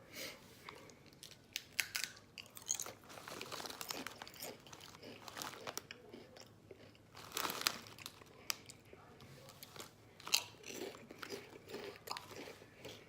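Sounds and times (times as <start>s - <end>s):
crunching potato chips: 1.1s - 8.8s, 9.5s - 13.0s.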